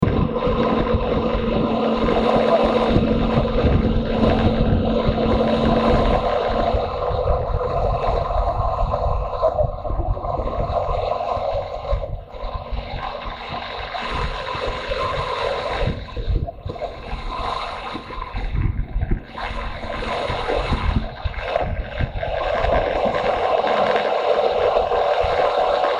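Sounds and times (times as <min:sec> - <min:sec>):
wind rushing over microphone: 0:00.0 - 0:25.9.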